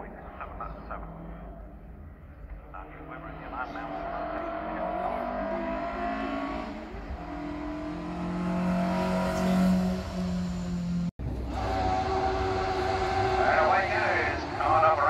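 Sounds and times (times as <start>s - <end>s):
race car engine accelerating: 0.5s - 15.0s.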